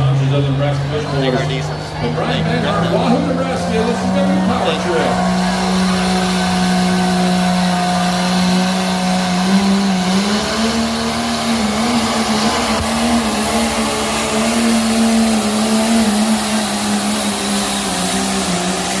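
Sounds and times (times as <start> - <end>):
diesel truck engine revving hard: 0.0 - 19.0.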